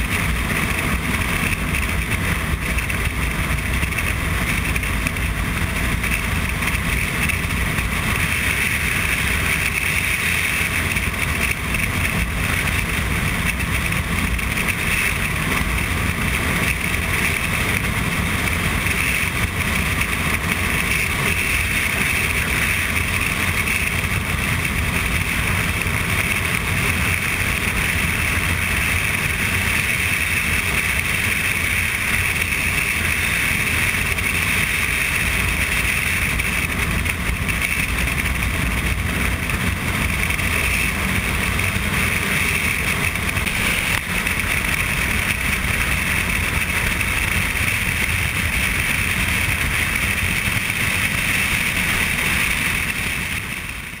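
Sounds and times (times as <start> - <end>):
motorcycle engine drone: 0.0 - 54.0
wind and road noise: 0.0 - 54.0.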